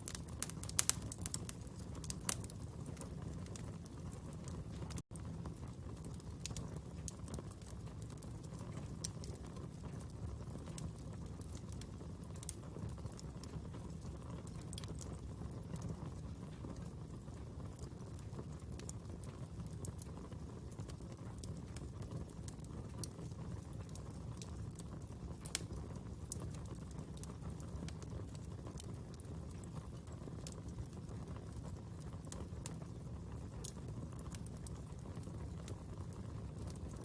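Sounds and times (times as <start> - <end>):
fire crackling and popping: 0.0 - 37.0
fire rumbling: 0.0 - 37.0.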